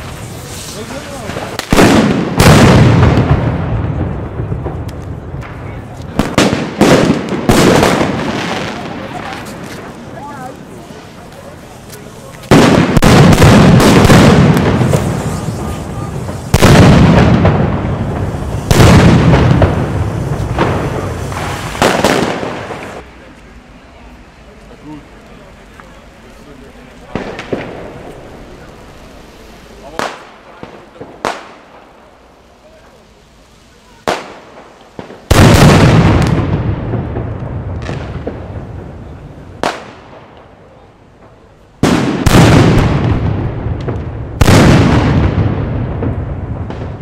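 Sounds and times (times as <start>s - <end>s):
firecracker bangs: 0.0s - 23.1s, 27.0s - 32.8s, 33.9s - 40.4s, 41.3s - 47.0s
firecracker crackling: 0.0s - 47.0s.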